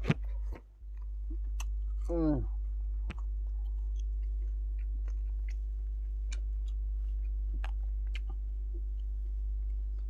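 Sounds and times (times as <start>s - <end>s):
steady low hum: 0.0s - 10.0s
man chewing with mouth clicks: 0.4s - 2.1s, 3.1s - 10.0s.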